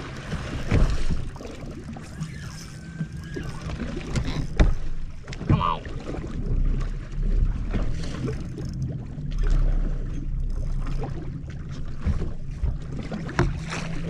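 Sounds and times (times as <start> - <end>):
water against boat hull: 0.0 - 14.0.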